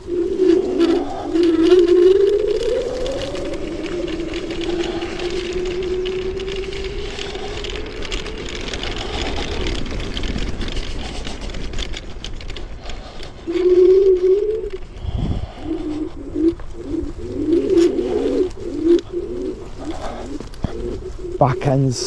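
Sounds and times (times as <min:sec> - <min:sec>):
electric scooter motor whining: 0:00.0 - 0:21.5
tyre and wind rumble: 0:00.0 - 0:22.0.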